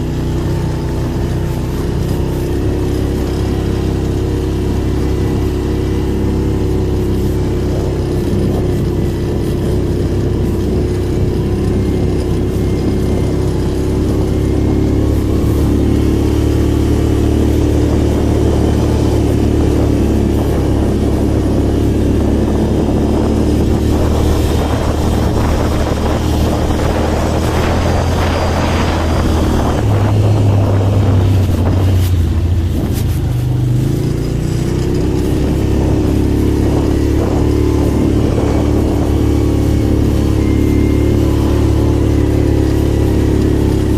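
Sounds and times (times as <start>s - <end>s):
atv engines running: 0.0s - 43.9s.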